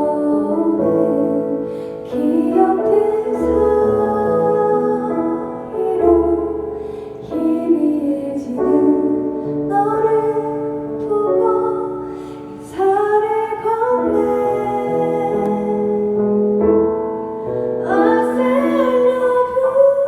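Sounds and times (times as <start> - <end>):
woman singing: 0.0 - 16.6, 17.8 - 20.0
keyboard accompaniment: 0.0 - 20.0.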